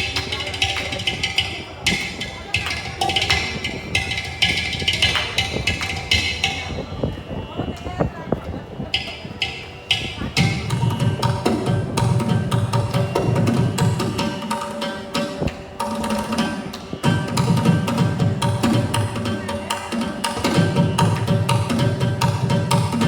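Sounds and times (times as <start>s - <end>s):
fast percussion music: 0.0s - 7.1s, 9.0s - 23.0s.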